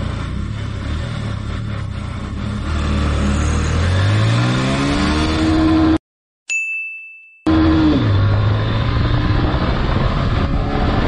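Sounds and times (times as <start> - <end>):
motorcycle engine accelerating: 0.0 - 6.0, 7.5 - 11.0.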